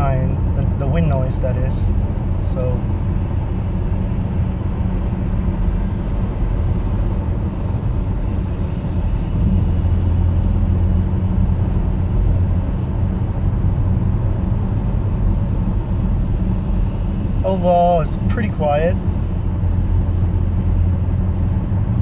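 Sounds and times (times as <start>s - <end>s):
road and tyre rumble: 0.0s - 22.0s
wind noise inside car cabin: 0.0s - 22.0s.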